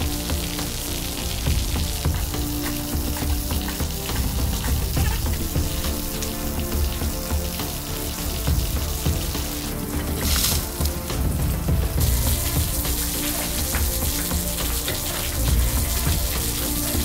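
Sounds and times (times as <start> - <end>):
music of held notes: 0.0 - 17.0
steady hiss: 0.0 - 17.0.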